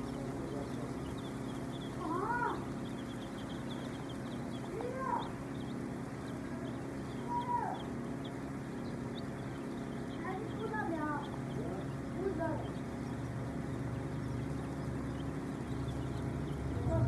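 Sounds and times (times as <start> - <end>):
chicks peeping: 0.0 - 17.0
rising and falling bird calls: 0.0 - 17.0
steady low hum: 0.0 - 17.0.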